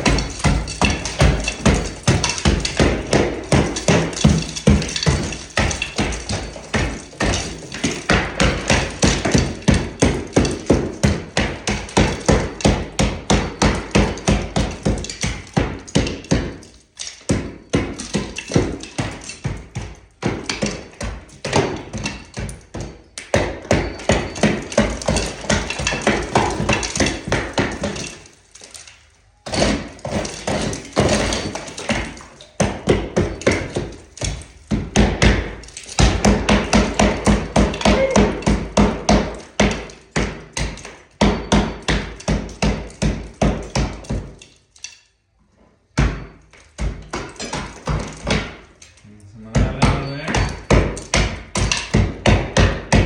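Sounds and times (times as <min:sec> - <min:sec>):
hammer striking plaster: 0:00.0 - 0:45.0, 0:46.0 - 0:53.0.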